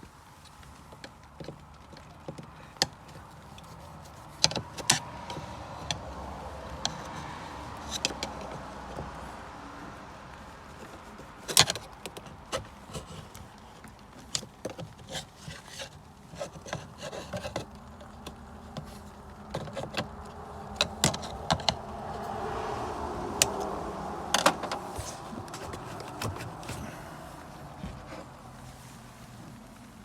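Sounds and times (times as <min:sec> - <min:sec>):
hand tools clicking and knocking: 0:00.9 - 0:22.4, 0:23.2 - 0:28.4
steady scraping: 0:03.1 - 0:30.0.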